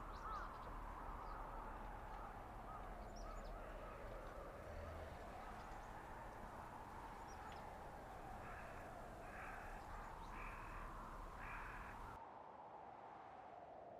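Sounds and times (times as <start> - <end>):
crow cawing: 0.0 - 12.2.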